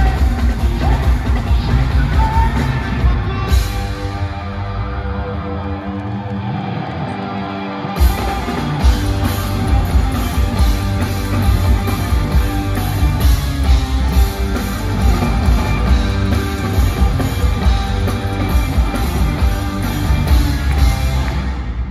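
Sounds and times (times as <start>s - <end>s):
drum kit beat: 0.0s - 4.0s, 8.0s - 21.7s
live rock band playing loud: 0.0s - 21.9s.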